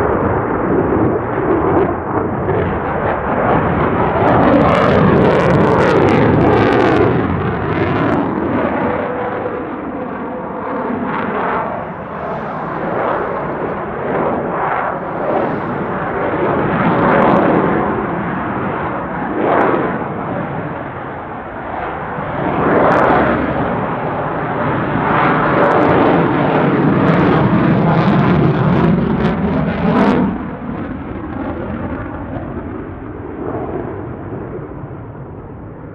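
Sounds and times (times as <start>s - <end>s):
military jet engines roaring: 0.0s - 35.9s.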